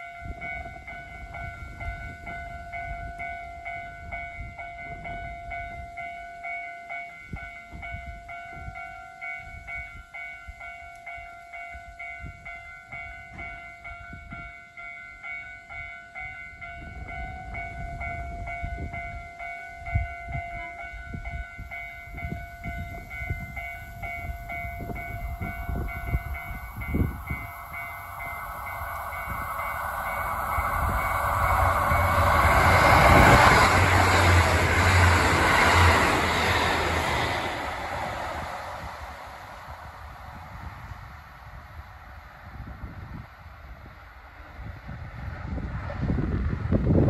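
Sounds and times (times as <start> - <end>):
wind buffeting microphone: 0.0 - 6.6, 7.2 - 47.0
railway warning bell ringing: 0.0 - 43.9
approaching diesel train: 0.0 - 47.0.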